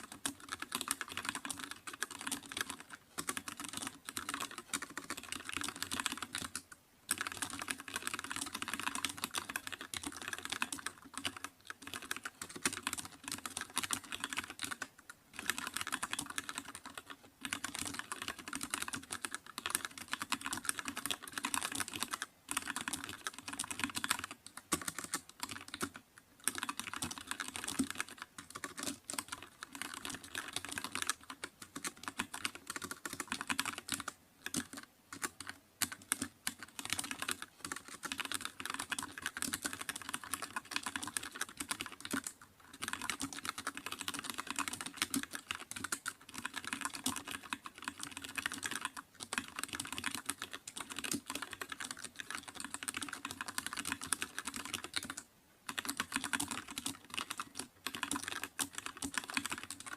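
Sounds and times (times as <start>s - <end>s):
typing on computer keyboard: 0.0s - 59.9s.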